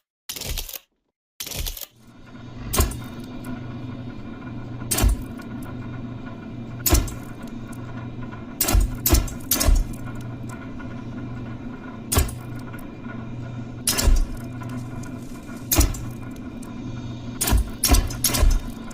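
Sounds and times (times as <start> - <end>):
steady hum: 2.0 - 18.9.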